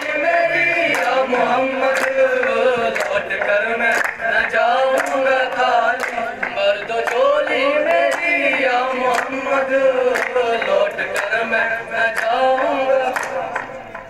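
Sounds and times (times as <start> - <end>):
hand claps: 0.0 - 14.0
young men singing with chorus: 0.0 - 14.0.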